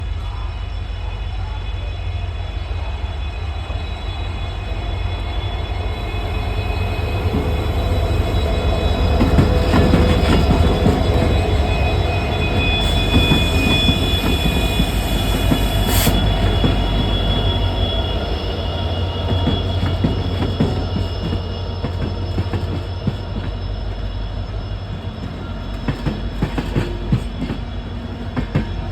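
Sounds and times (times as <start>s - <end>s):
train rumbling on rails: 0.0s - 28.9s
wheels squealing: 3.6s - 28.9s.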